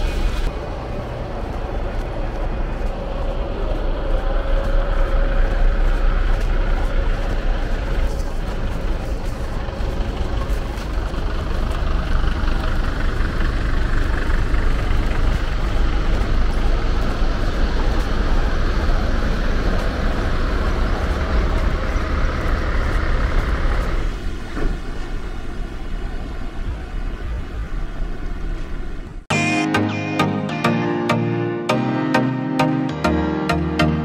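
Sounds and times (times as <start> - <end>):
diesel engines rumbling: 0.0 - 34.0.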